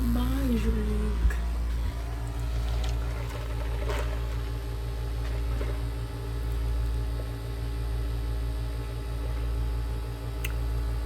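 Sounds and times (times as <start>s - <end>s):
low background rumble and hum: 0.0s - 11.0s.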